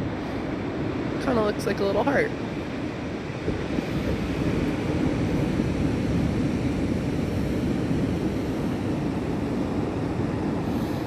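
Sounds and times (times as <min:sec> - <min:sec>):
ocean surf rumbling: 0:00.0 - 0:11.0
wind buffeting microphone: 0:00.0 - 0:11.0.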